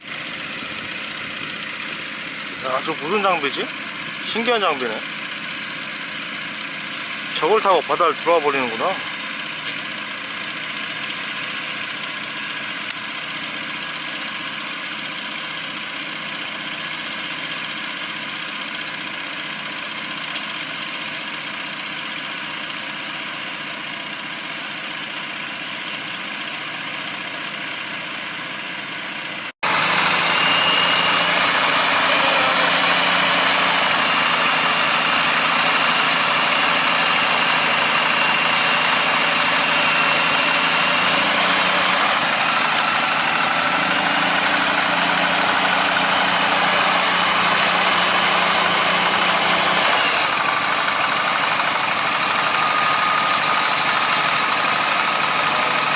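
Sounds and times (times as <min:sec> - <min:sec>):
engine idling: 0:00.0 - 0:55.9
rough engine running: 0:00.0 - 0:55.9.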